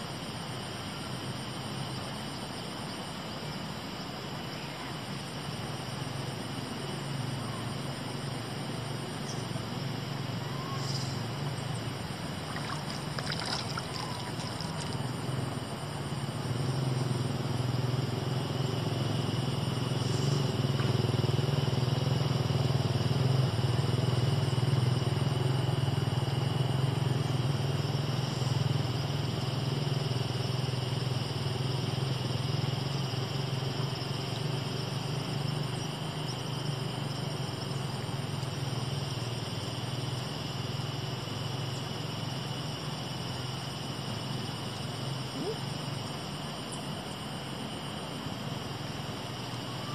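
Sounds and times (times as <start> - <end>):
small engine droning: 6.2 - 49.9.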